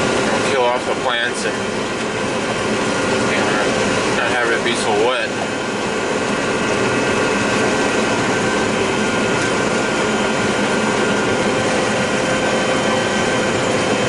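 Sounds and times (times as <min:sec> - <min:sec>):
combine harvester mechanical drone: 0:00.0 - 0:14.0
machinery and fan whining: 0:00.0 - 0:14.0.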